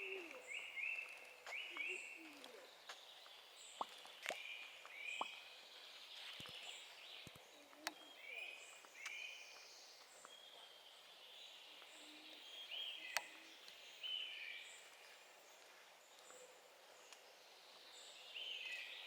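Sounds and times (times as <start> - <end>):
faint songbirds singing: 0.0 - 19.0.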